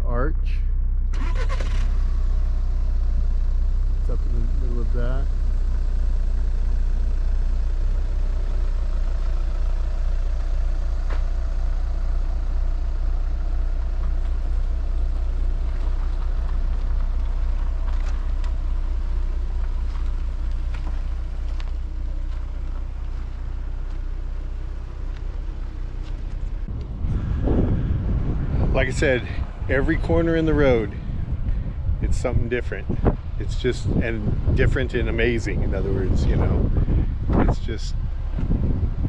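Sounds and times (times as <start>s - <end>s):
vehicle driving along road: 0.0s - 39.0s.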